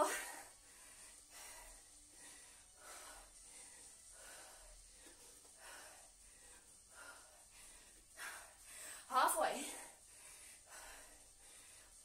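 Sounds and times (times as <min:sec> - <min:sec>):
woman breathing heavily: 0:00.0 - 0:12.0.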